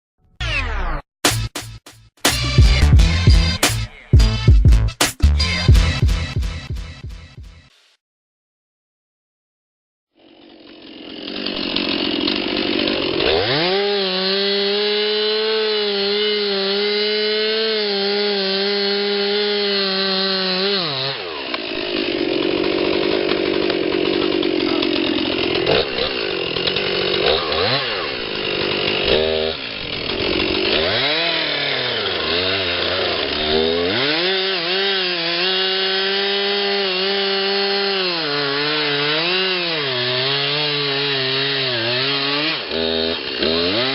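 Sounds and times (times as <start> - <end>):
chainsaw cutting wood: 1.2 - 7.7, 10.2 - 43.9.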